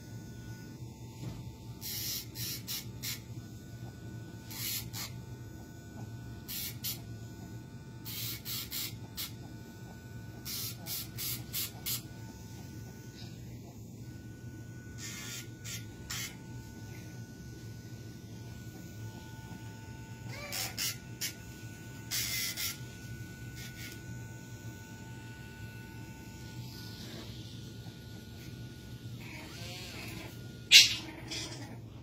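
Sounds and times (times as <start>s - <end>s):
rotary tool whining: 4.4s - 32.0s.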